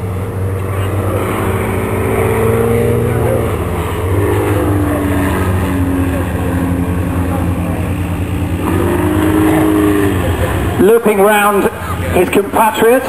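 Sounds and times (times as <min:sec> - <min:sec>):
propeller aircraft engines: 0:00.0 - 0:13.0.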